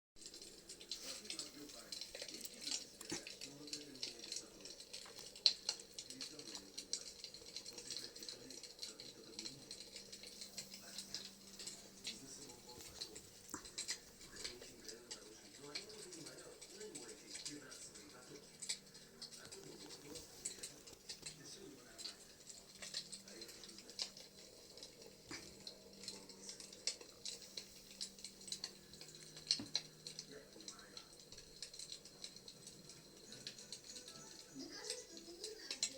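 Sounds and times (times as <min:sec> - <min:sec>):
wood fire crackling and popping: 0:00.2 - 0:35.9.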